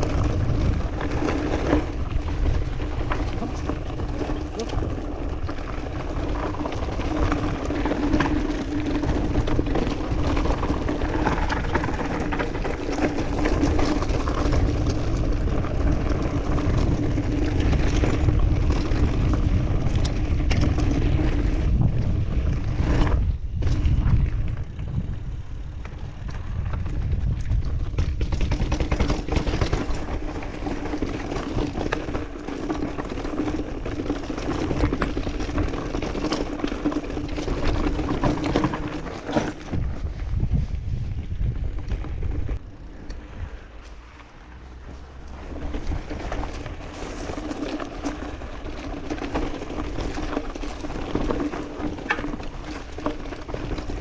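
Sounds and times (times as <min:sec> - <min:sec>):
bike rattling over stones: 0:00.0 - 0:54.0
wind buffeting microphone: 0:00.0 - 0:54.0.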